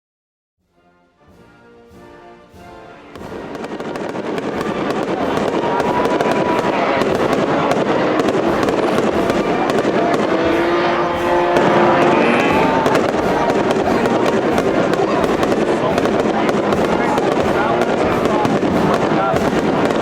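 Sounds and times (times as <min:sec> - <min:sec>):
music with held notes: 0:00.6 - 0:20.0
fireworks crackling and banging: 0:01.3 - 0:20.0.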